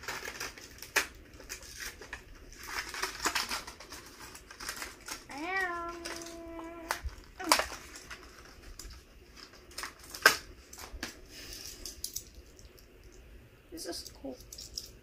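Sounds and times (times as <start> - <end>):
blister pack clicking and crackling: 0.0 - 13.2.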